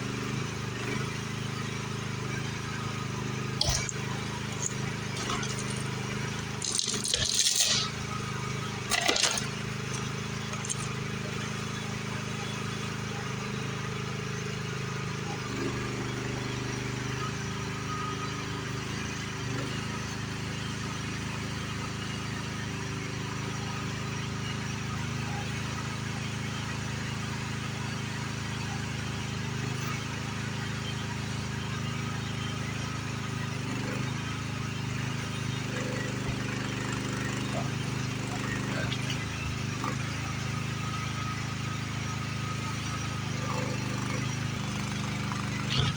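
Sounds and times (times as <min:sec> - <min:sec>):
demolition machine engine running: 0:00.0 - 0:45.9.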